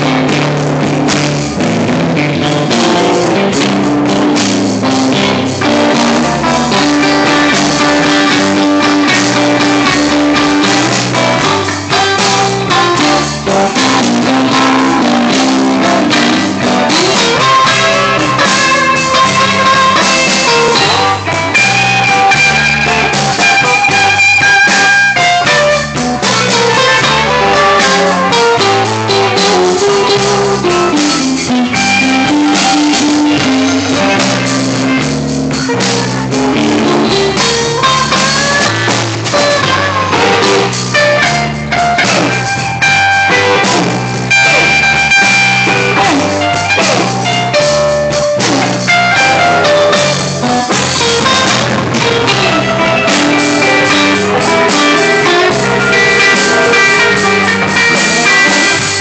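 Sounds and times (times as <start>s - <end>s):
drum kit: 0.0s - 59.0s
lead guitar sliding notes: 0.0s - 59.0s
repeating bass line: 0.0s - 59.0s.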